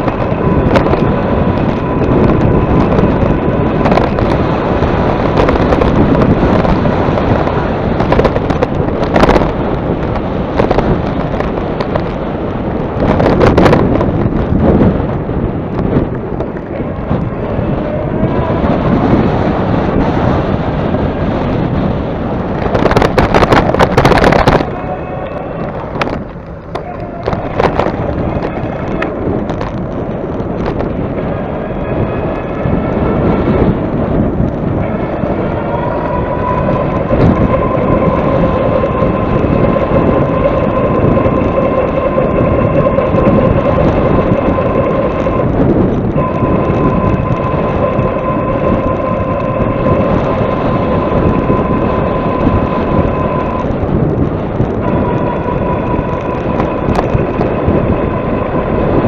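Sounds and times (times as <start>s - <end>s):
rising whine: 0.0s - 59.0s
wind buffeting microphone: 0.0s - 59.0s.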